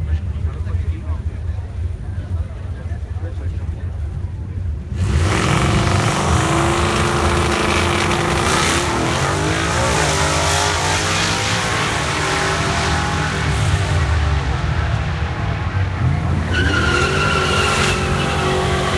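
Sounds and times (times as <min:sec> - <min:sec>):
drag racing engines revving: 0:00.1 - 0:18.9.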